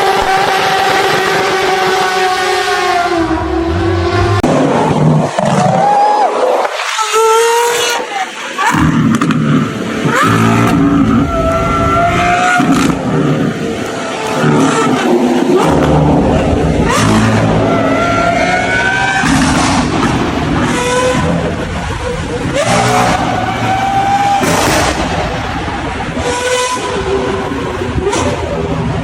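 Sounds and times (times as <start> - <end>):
car engine accelerating: 0.0 - 6.0, 7.2 - 29.0.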